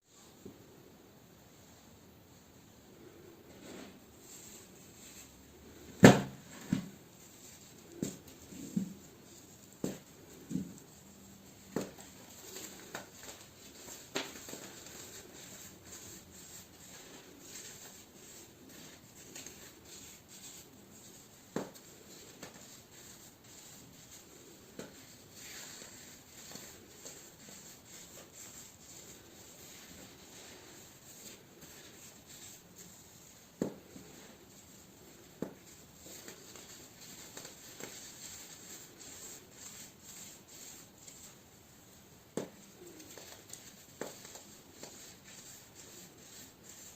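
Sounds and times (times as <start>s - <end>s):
soft gritty rubbing: 3.1s - 46.9s.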